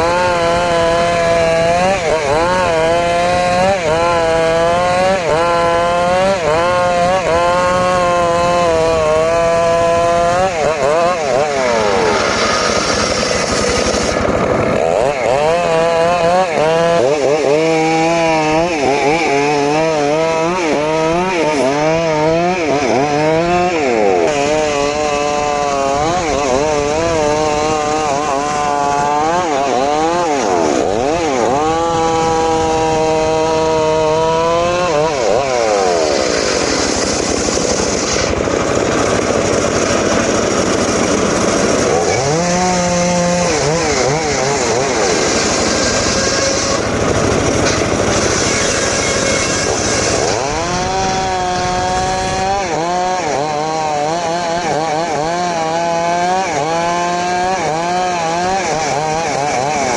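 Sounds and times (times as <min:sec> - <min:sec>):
engine-driven saw cutting wood: 0:00.0 - 0:59.9.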